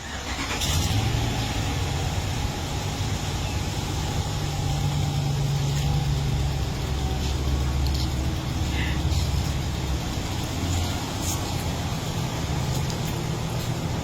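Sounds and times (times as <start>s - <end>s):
motor vehicle engine rumbling: 0.0s - 14.0s.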